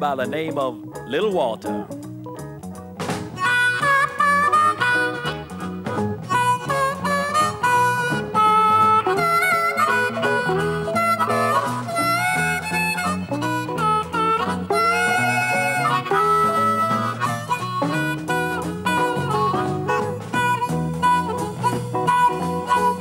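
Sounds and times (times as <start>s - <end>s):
amplified blues harmonica: 0.0s - 23.0s
electric guitar accompaniment: 0.0s - 23.0s.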